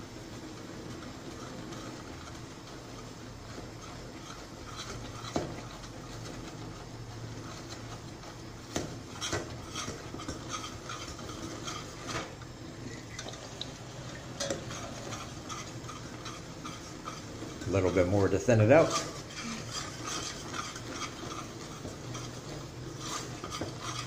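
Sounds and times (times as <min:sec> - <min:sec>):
metal spoon stirring in a pot: 0:00.3 - 0:24.0.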